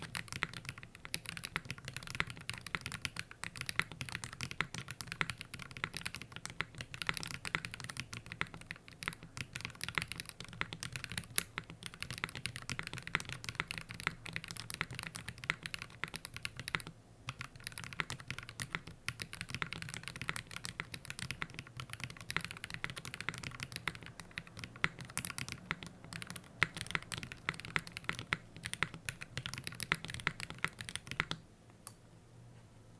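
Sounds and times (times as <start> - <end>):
typing on mechanical keyboard: 0.0 - 31.4.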